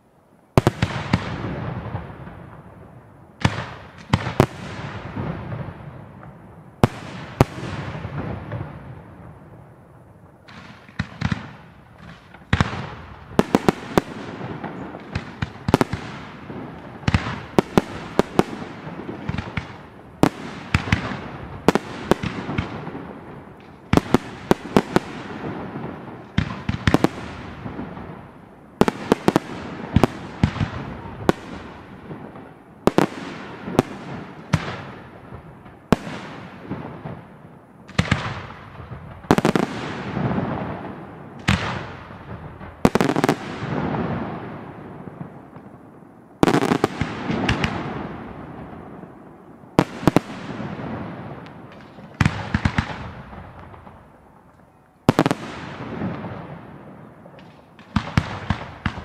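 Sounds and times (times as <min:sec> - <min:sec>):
fireworks bursting with bangs: 0:00.0 - 0:59.0.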